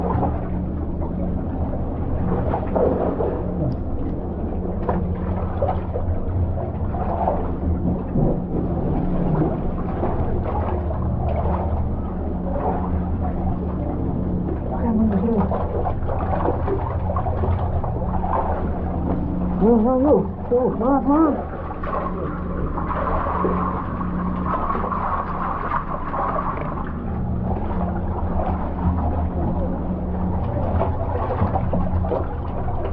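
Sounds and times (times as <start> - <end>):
boat engine running: 0.0 - 32.9
water splashing: 0.0 - 32.9.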